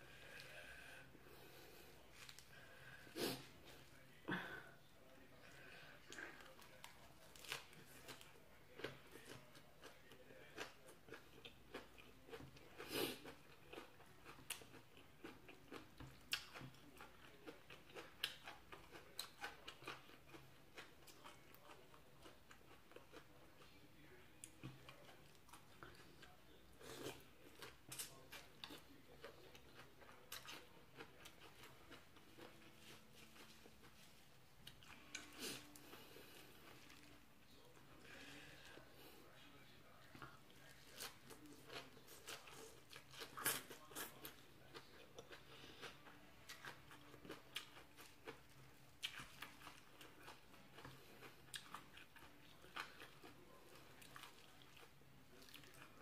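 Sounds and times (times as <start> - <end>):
person chewing crunchy vegetables: 5.9 - 56.0.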